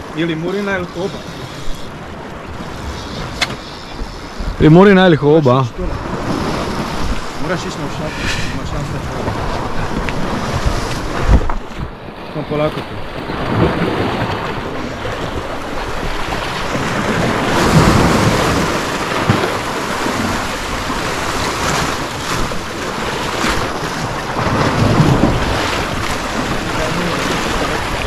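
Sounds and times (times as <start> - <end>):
sea waves washing against rocks: 0.0 - 28.0
wind buffeting microphone: 0.0 - 28.0.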